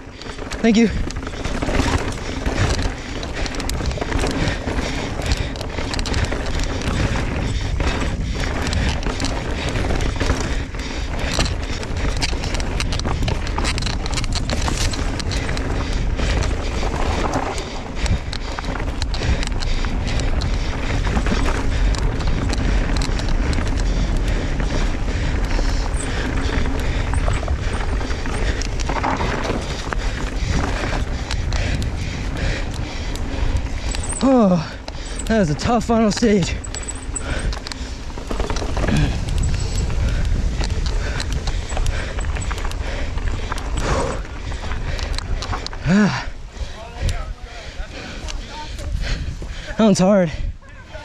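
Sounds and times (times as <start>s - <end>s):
bike clattering over rough ground: 0.0s - 51.0s
wind rush on microphone: 0.0s - 51.0s.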